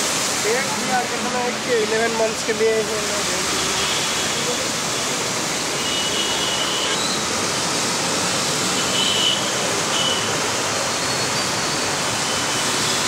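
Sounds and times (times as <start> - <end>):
traffic driving through floodwater: 0.0 - 13.0.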